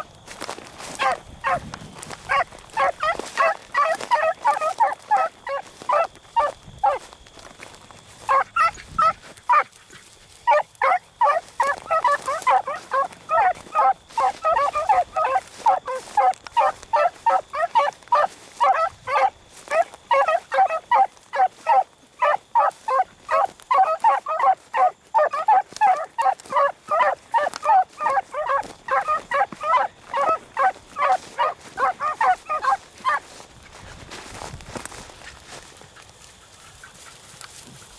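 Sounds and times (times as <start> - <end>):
dogs baying: 0.0 - 34.2.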